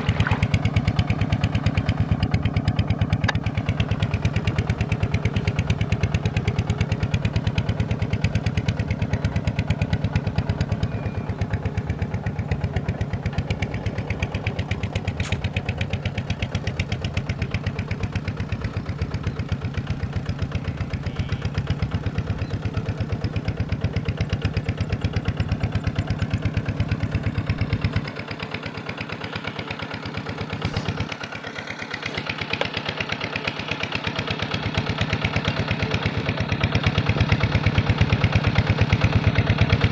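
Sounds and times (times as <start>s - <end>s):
small diesel engine running: 0.0s - 39.9s.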